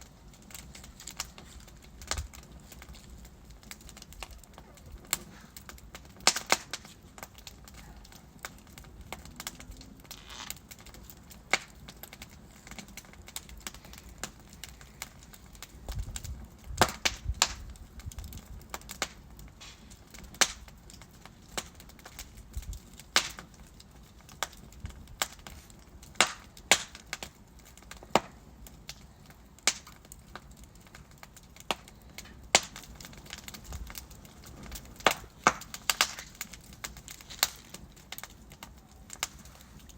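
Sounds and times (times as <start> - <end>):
burning logs crackling and popping: 0.0 - 39.9
low rumble of flames: 0.0 - 39.9.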